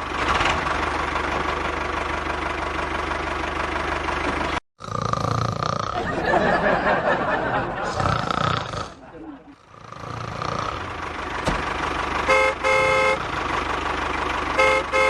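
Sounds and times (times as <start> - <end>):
engine running with fast pulse: 0.0 - 15.0
rough engine with high whine: 0.0 - 15.0.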